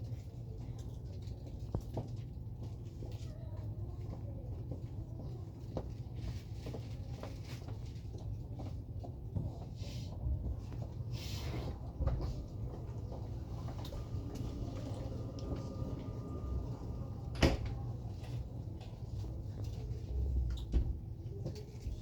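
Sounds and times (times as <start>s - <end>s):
train carriage low hum: 0.0s - 22.0s.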